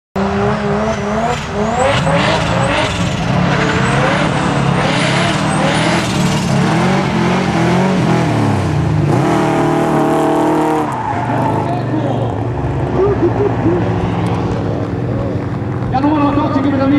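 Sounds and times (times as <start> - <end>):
car engines revving: 0.2 - 16.9.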